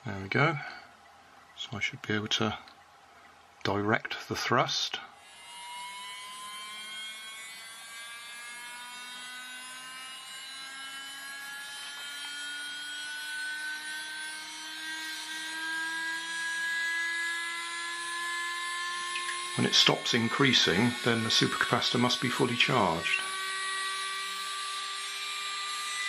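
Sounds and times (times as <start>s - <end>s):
small electric motor whine: 5.1s - 26.0s.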